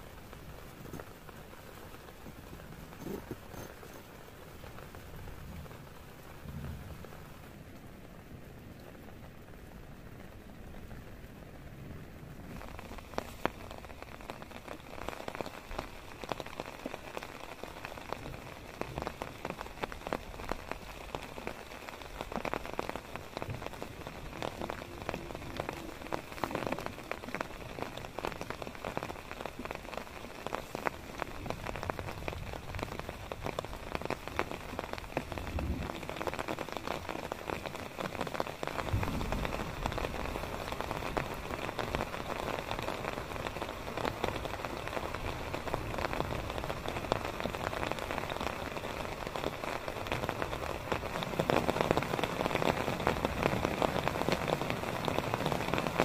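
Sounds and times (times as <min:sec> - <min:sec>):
heavy rain on a tarp: 0:00.0 - 0:56.0.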